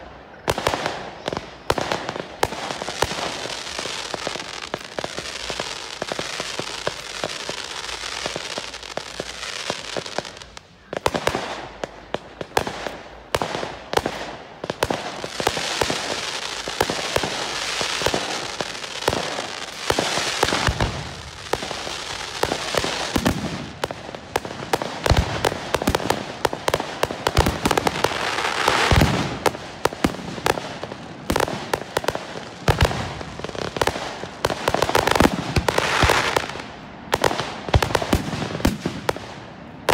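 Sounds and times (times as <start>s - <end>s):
hiss and crackle of fireworks: 0.0s - 39.9s.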